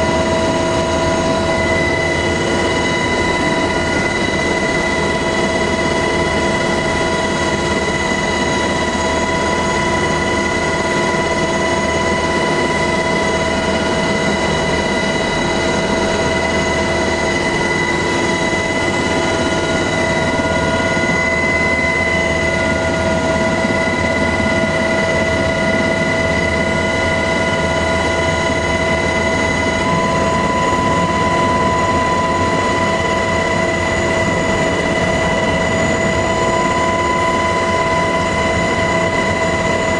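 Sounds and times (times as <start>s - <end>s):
helicopter engine drone: 0.0s - 39.9s
high whining tones: 0.0s - 39.9s.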